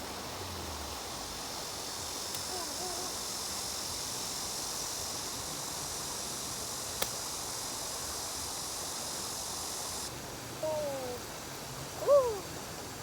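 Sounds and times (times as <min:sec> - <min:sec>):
high-pitched background hiss: 0:00.0 - 0:13.0.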